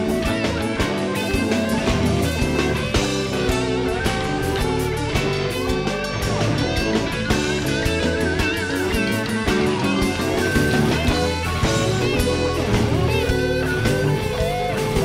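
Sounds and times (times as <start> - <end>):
bass guitar: 0.0 - 15.0
electric guitar lead with vibrato: 0.0 - 15.0
keyboard: 0.0 - 15.0
steady drum beat: 0.0 - 15.0.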